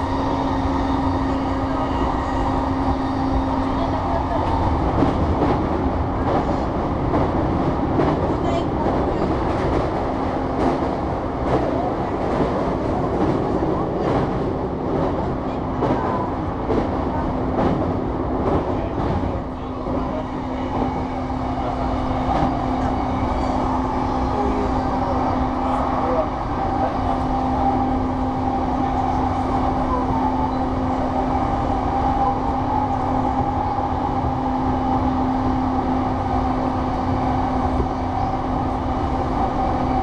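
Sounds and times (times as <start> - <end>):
rail clicks: 0.0 - 40.0
train wheels rumbling on rail: 0.0 - 40.0.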